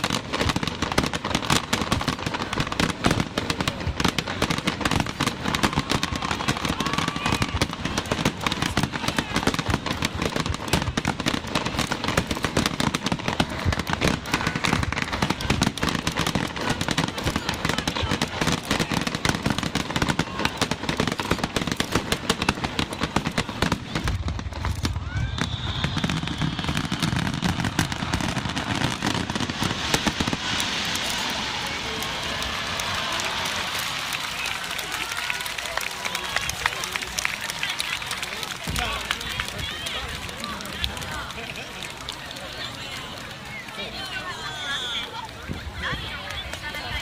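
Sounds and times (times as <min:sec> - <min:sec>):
crowd voices: 0:00.0 - 0:47.0
fireworks crackling and banging: 0:00.0 - 0:47.0.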